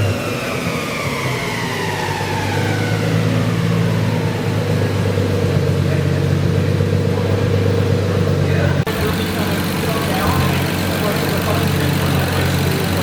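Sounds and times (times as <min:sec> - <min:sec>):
car engine running on dyno: 0:00.0 - 0:13.0.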